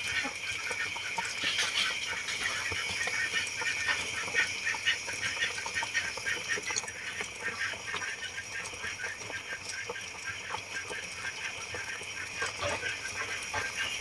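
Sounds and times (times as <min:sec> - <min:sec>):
broth boiling and bubbling: 0:00.0 - 0:14.0.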